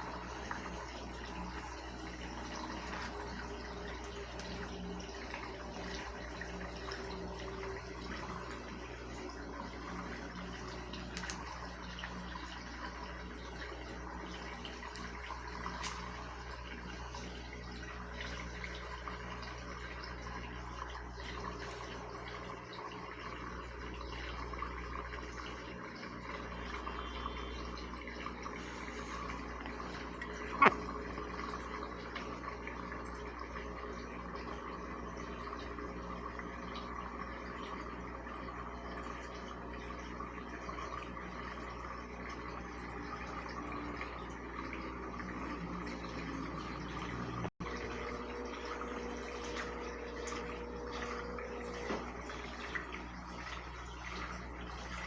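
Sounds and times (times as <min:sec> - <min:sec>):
water rushing into washing machine: 0:00.0 - 0:55.0.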